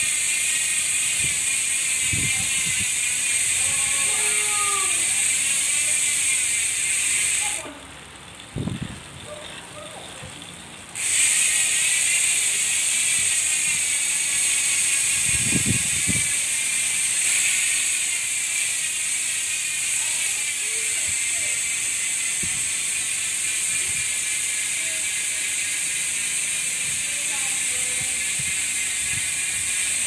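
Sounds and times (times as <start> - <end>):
bike freehub clicking buzz: 0.0 - 8.8, 10.4 - 30.0.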